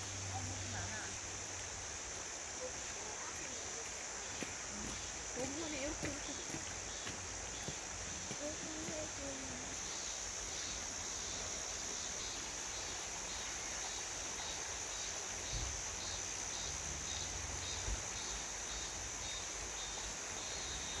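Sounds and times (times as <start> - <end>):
cicadas droning: 0.0 - 21.0
pulsing insect call: 0.0 - 21.0.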